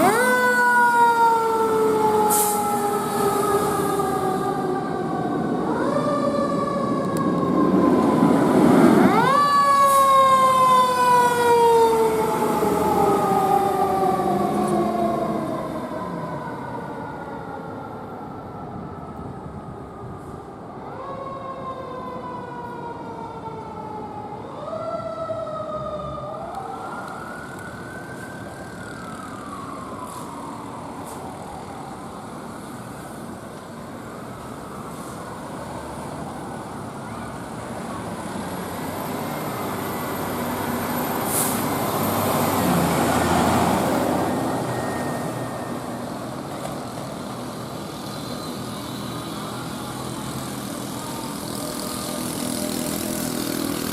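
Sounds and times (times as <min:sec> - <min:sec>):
fire truck passing: 0:00.0 - 0:53.9
fire truck siren: 0:00.0 - 0:53.9.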